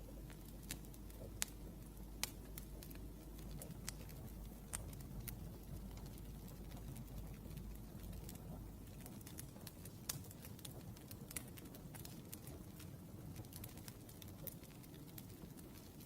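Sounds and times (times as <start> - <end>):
low fire rumble: 0.0 - 16.0
wood fire popping and snapping: 0.0 - 16.0.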